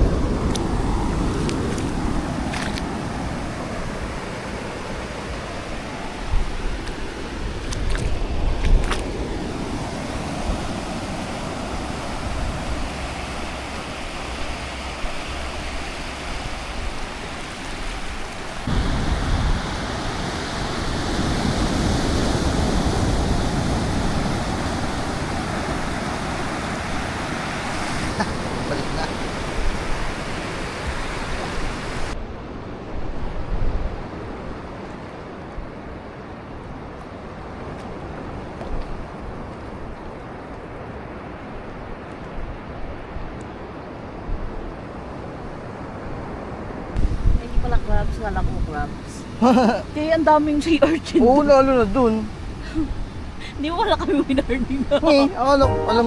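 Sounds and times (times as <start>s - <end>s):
sea surf washing on shore: 0.0s - 56.0s.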